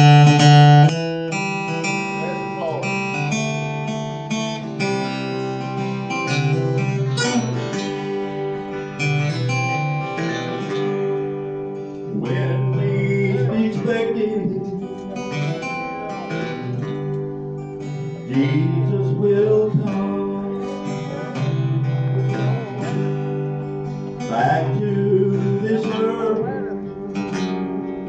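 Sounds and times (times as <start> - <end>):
gospel song with acoustic guitar: 0.0 - 28.0.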